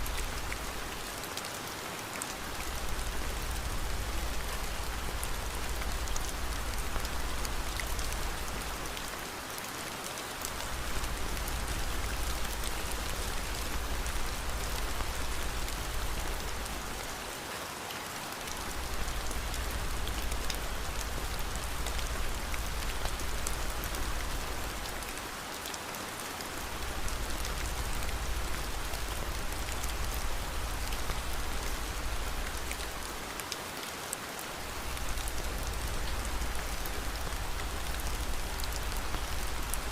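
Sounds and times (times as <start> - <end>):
steady rain hiss: 0.0 - 39.9
raindrop ticks: 2.2 - 9.2, 10.2 - 17.2, 18.4 - 25.8, 26.4 - 33.5, 34.6 - 39.9.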